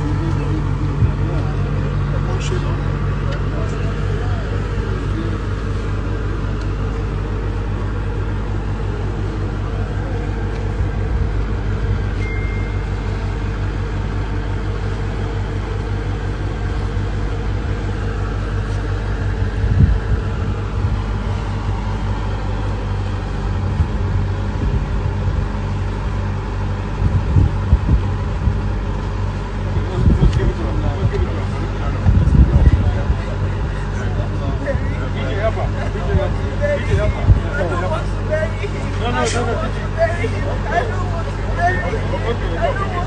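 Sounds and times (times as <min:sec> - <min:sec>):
engine idling: 0:00.0 - 0:43.0
faint voices: 0:00.0 - 0:43.0.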